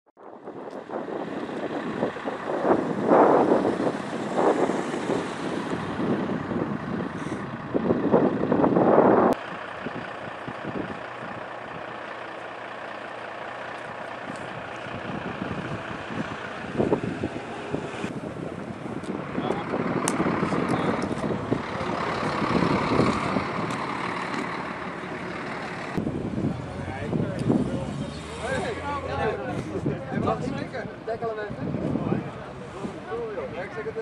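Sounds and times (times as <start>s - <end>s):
steady traffic rumble: 0.2s - 34.0s
vehicles passing close by: 0.2s - 34.0s.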